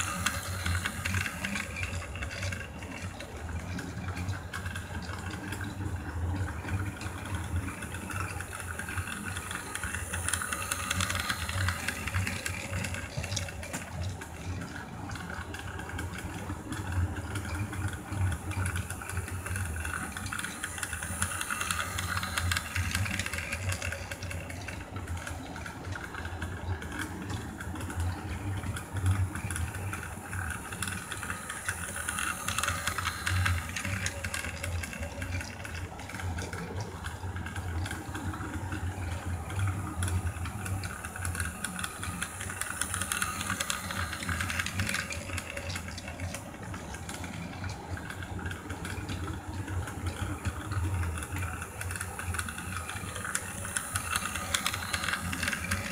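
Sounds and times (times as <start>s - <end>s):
toy train wheels rattling on track: 0.0s - 5.8s, 6.4s - 55.9s
toy train motor whir: 0.0s - 55.9s.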